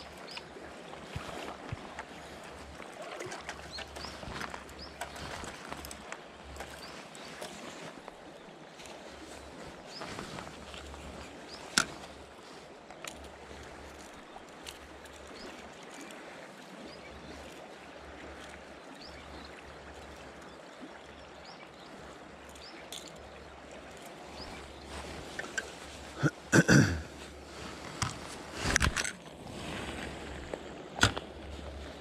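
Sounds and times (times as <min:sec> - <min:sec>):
river water flowing: 0:00.0 - 0:32.0.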